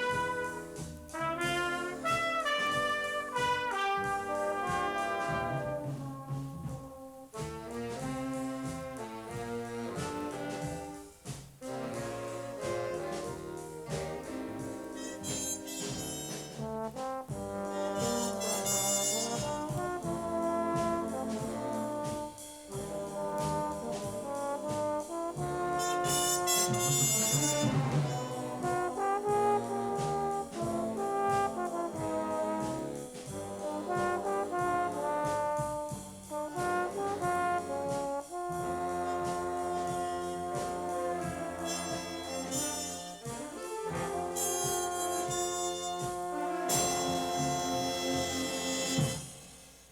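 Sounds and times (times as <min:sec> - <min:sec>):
jazz band with brass: 0:00.0 - 0:49.9.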